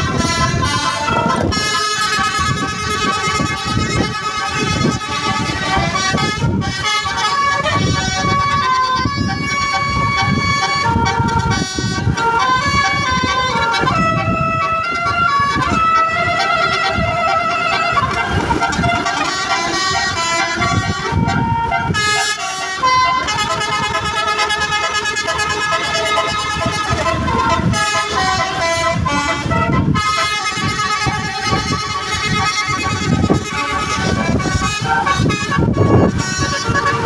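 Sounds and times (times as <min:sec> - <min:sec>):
low uneven rumble: 0:00.0 - 0:37.0
multi-trumpet bus horn tune: 0:00.0 - 0:37.0.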